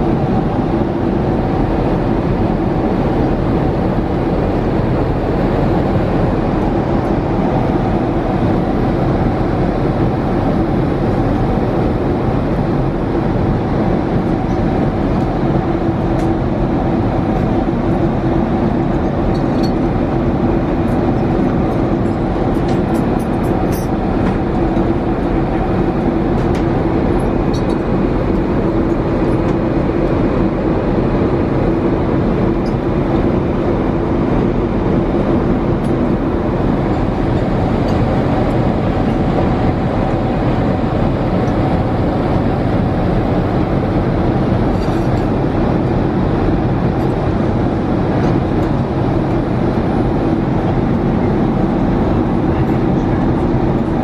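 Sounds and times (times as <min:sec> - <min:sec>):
airliner cabin noise: 0:00.0 - 0:54.0.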